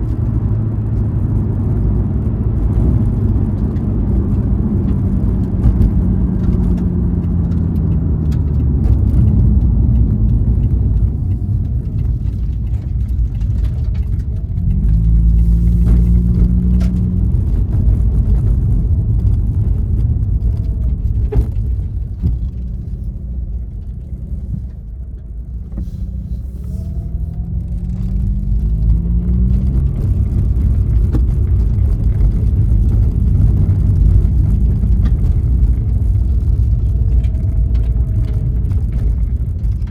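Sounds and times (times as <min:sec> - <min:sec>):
rotary engine accelerating: 0:00.0 - 0:39.9.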